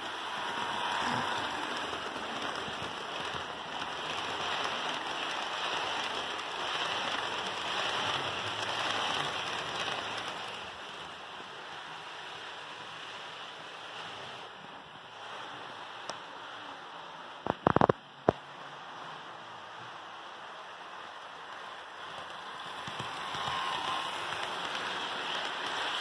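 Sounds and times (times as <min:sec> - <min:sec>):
model train wheels on rails: 0:00.0 - 0:26.0.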